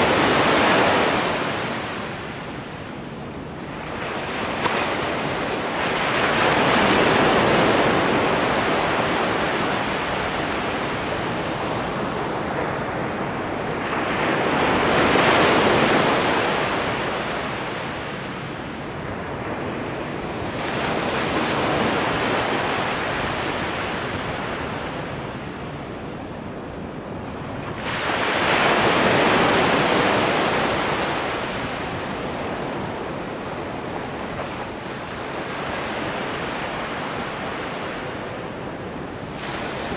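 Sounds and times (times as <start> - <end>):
waves crashing on a sandy beach: 0.0 - 39.9.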